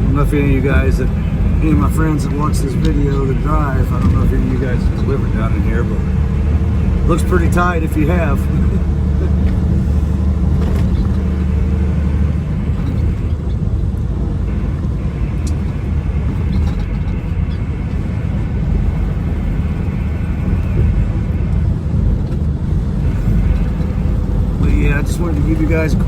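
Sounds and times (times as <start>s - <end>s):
truck engine rumble: 0.0s - 26.0s.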